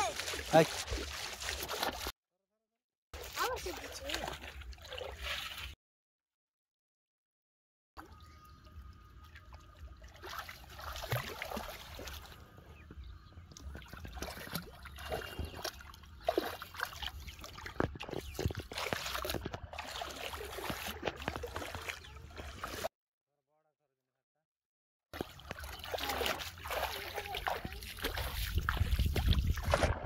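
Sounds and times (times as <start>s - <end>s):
shallow water splashing: 0.0s - 2.1s, 3.2s - 5.8s, 8.0s - 22.9s, 25.2s - 30.0s.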